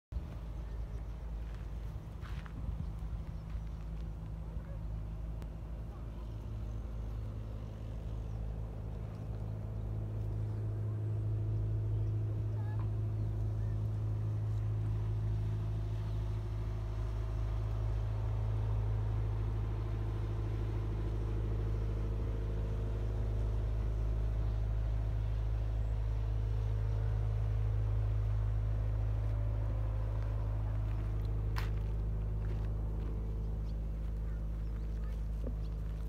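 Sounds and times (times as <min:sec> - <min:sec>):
low engine drone: 0:00.1 - 0:36.0.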